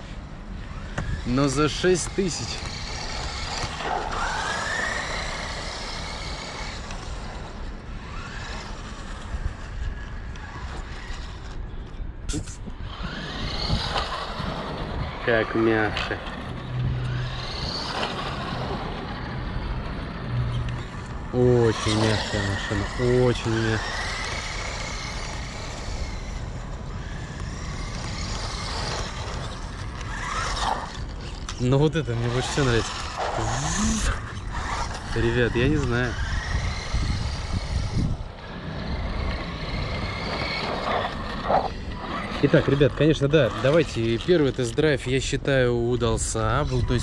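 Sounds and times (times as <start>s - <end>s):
electric motor whining: 0.0s - 44.8s
tyre and road noise: 0.0s - 47.0s.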